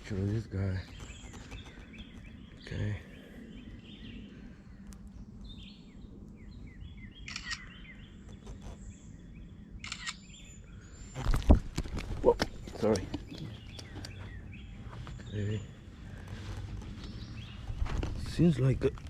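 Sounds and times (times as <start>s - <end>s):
faint outdoor background noise: 0.0s - 19.0s
small birds chirping: 0.0s - 19.0s.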